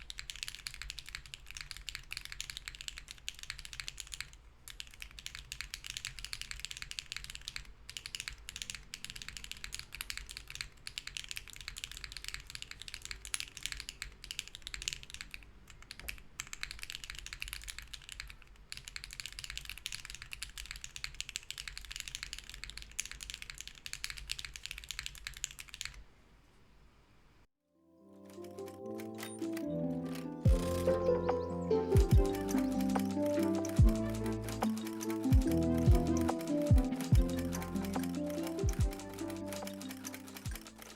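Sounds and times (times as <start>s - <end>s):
fast mechanical keyboard typing: 0.0s - 26.1s, 28.3s - 40.9s.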